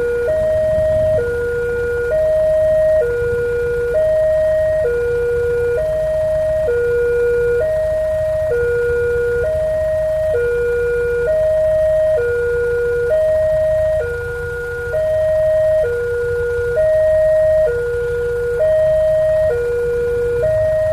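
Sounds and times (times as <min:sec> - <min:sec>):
two-tone crossing alarm: 0:00.0 - 0:20.9.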